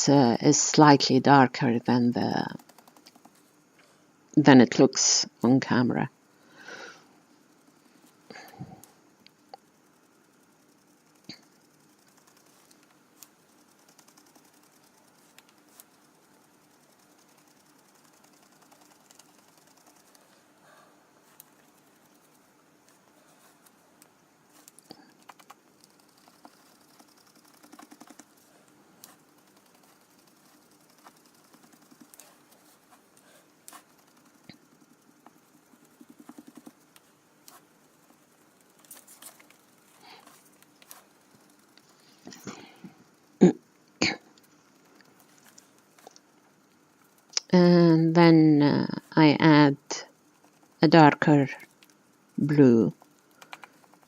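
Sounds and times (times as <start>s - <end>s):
sponge dabbing paint: 9.3s - 43.2s, 44.1s - 54.0s.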